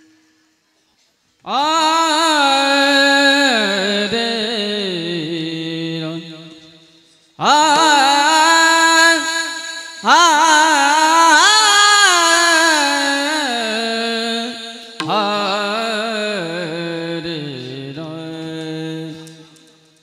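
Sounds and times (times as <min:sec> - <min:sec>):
person singing ornamented phrases: 0:01.4 - 0:19.7.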